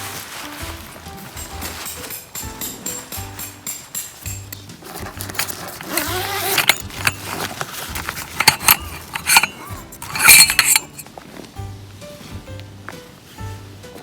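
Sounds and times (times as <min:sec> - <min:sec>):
metal objects clinking: 0:00.0 - 0:11.3
background music: 0:00.0 - 0:14.0.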